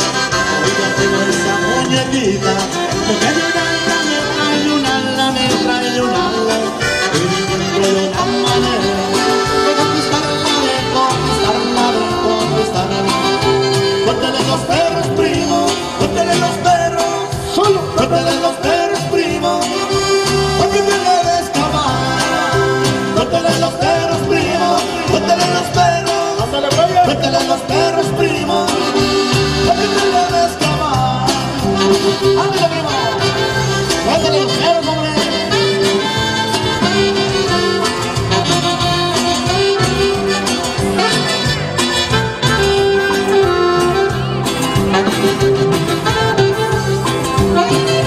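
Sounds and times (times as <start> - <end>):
accordion lead: 0.0 - 48.0
live band playing cumbia: 0.0 - 48.0.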